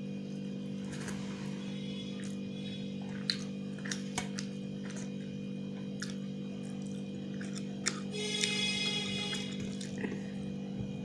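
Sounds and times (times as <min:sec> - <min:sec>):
low hum: 0:00.0 - 0:11.0
person chewing food: 0:00.3 - 0:11.0.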